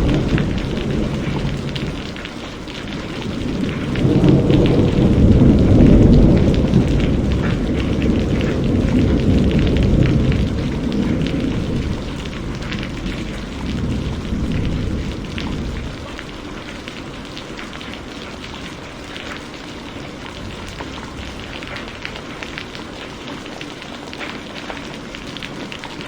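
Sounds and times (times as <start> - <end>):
low thunder rumble: 0.0 - 23.2
heavy rain falling: 0.0 - 26.0.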